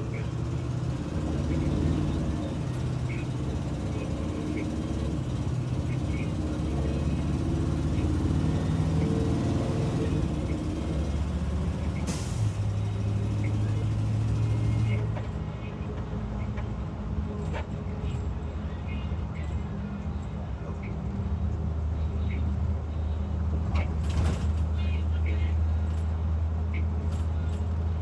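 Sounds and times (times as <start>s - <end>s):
bus engine droning: 0.0s - 28.0s.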